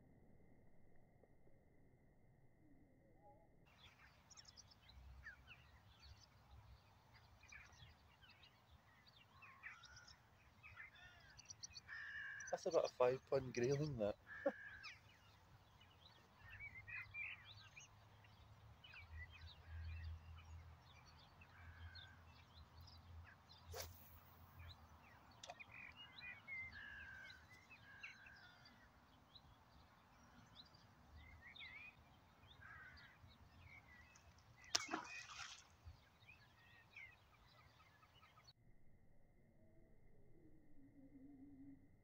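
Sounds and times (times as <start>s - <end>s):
small birds chirping: 3.7s - 38.5s.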